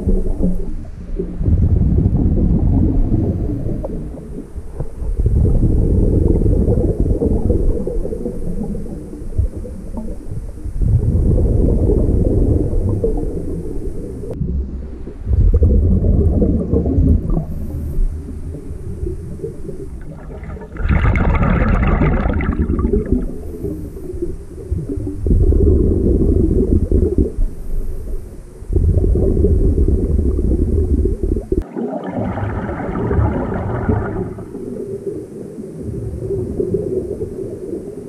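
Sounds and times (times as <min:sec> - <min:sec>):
underwater regulator bubbles: 0:00.0 - 0:38.0.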